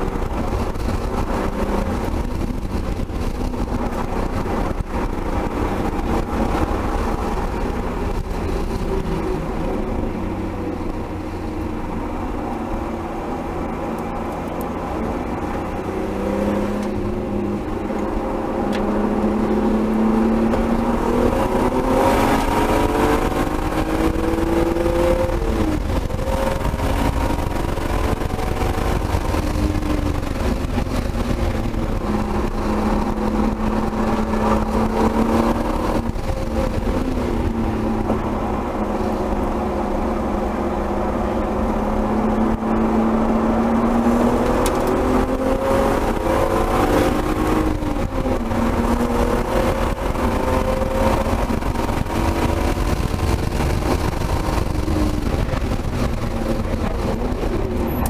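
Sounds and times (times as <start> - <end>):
car engine under load: 0.0 - 58.0
road and wind noise: 0.0 - 58.0.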